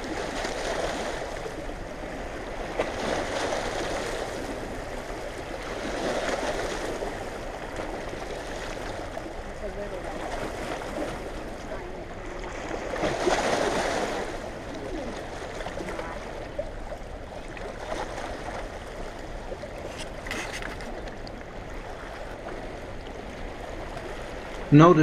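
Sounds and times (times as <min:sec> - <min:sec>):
rushing water below dam: 0:00.0 - 0:25.0.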